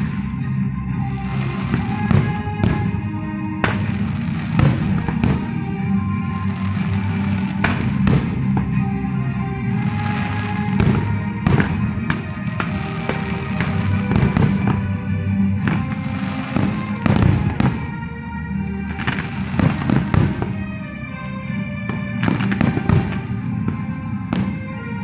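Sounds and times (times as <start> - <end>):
fireworks bangs: 0.0 - 25.0
music: 0.0 - 25.0.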